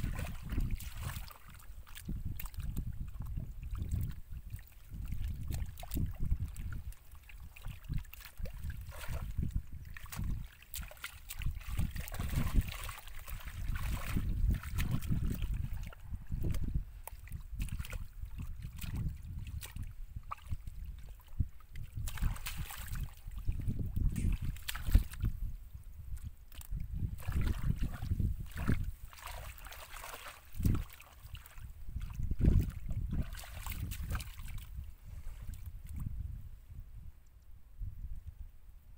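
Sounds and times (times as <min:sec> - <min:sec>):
hands squelching through mud: 0:00.0 - 0:25.4, 0:26.1 - 0:35.7
wind rumble on microphone: 0:00.0 - 0:38.9.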